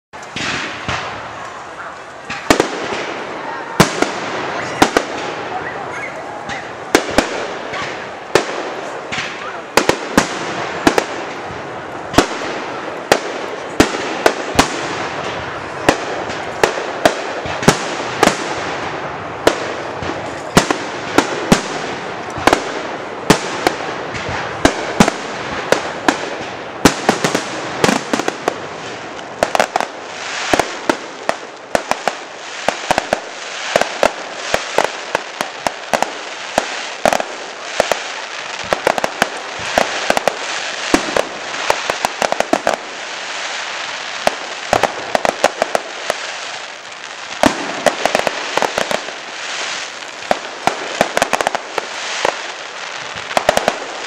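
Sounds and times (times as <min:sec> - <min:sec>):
fireworks bangs and cracks: 0:00.1 - 0:54.0
fireworks crackling hiss: 0:00.2 - 0:54.0.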